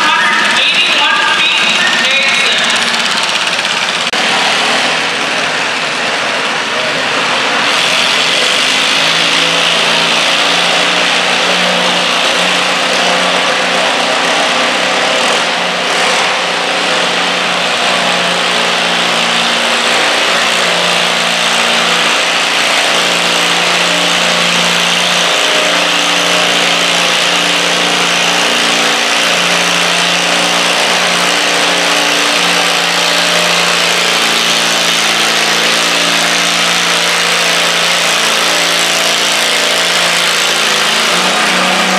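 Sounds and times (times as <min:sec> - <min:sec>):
garden tractor engine under load: 0:00.0 - 0:41.9.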